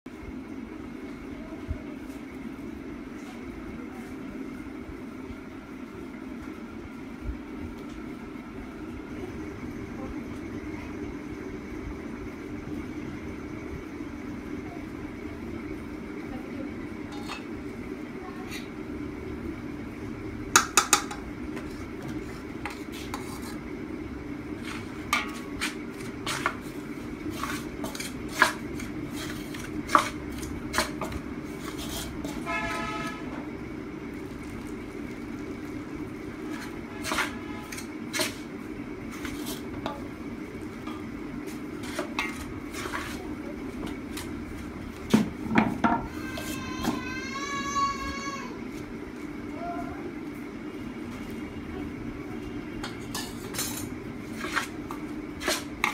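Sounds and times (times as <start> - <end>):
steady low hum: 0.1 - 55.9.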